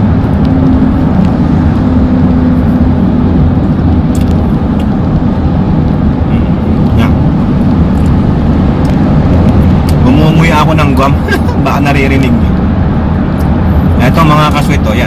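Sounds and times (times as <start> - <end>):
car tyre and engine drone: 0.0 - 15.0.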